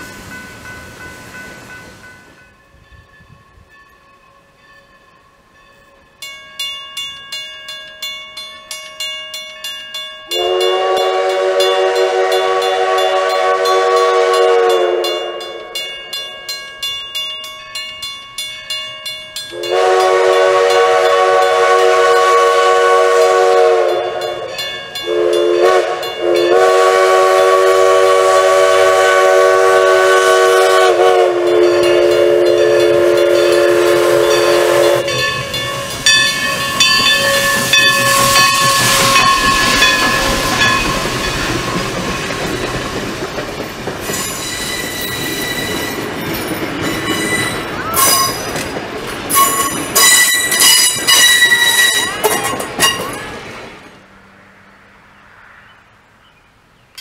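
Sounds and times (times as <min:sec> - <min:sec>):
steam locomotive chime whistle: 0:00.0 - 0:43.2, 0:44.0 - 0:53.4
crossing bell ringing: 0:00.0 - 0:53.4.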